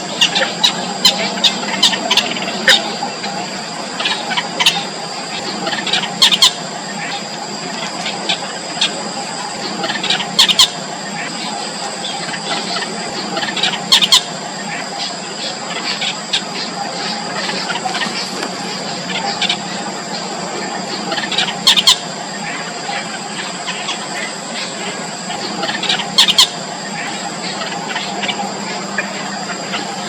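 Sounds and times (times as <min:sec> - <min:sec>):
nestlings squealing begging calls: 0:00.0 - 0:30.0
steady hum: 0:00.0 - 0:30.0.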